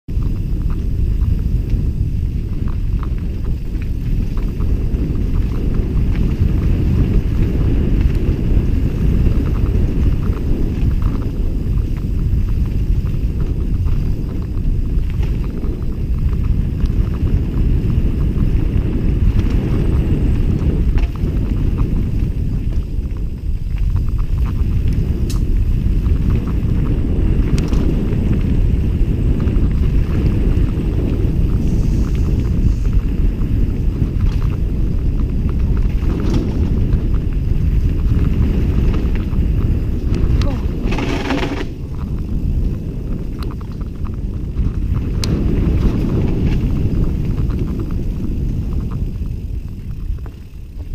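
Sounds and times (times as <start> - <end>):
wind on microphone: 0.0 - 50.9
bike clicks and rattles: 0.1 - 50.9
tyres on dirt: 0.1 - 50.9.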